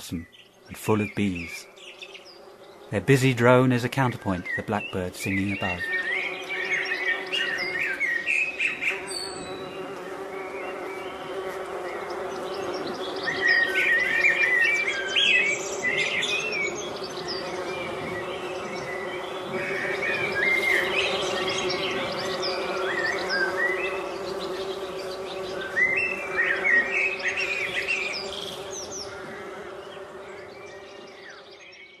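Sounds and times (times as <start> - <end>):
bees droning: 0.0 - 31.8
blackbird singing: 0.0 - 32.0.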